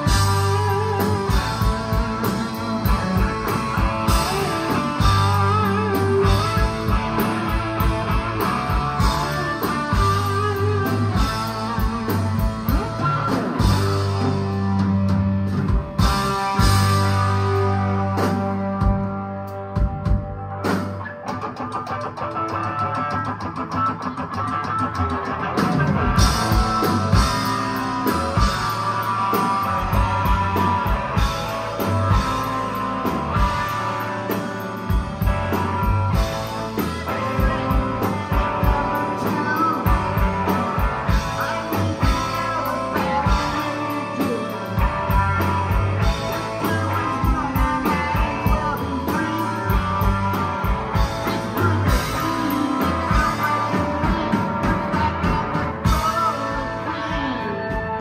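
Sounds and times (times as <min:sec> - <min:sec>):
bass guitar: 0:00.0 - 0:58.0
distorted electric guitars: 0:00.0 - 0:58.0
drums playing a steady beat: 0:00.0 - 0:58.0.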